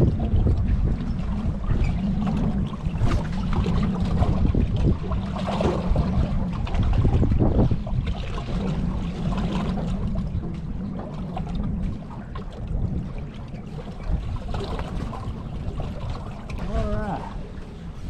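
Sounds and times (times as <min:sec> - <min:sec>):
water lapping against boat hull: 0:00.0 - 0:18.0
wind rumble on microphone: 0:00.0 - 0:18.0.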